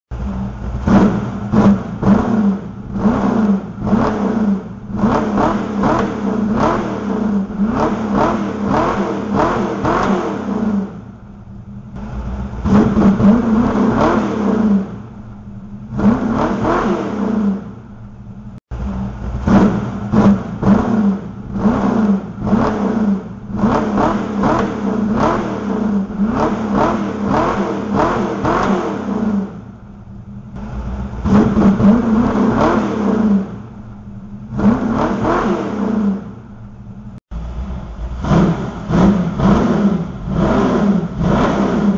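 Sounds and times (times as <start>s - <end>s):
car engine revving: 0.1s - 41.9s.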